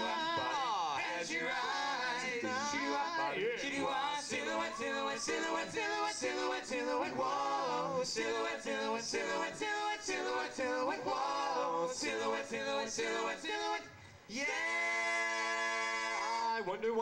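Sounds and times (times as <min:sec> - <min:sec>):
a cappella group singing: 0:00.0 - 0:17.0.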